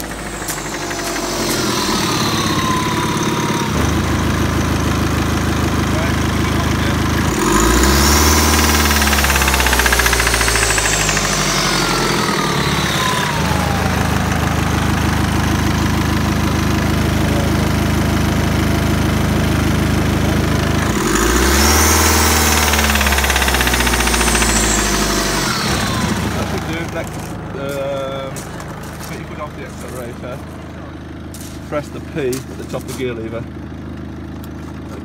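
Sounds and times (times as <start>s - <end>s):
diesel engine idling and revving: 0.0s - 35.0s.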